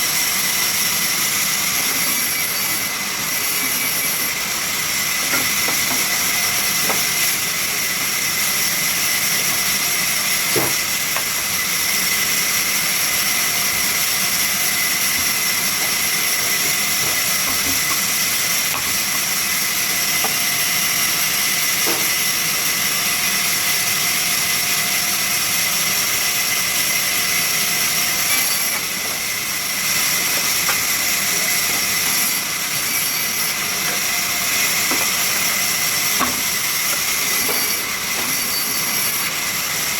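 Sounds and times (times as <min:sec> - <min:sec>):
sawmill saw hiss and whine: 0:00.0 - 0:39.9.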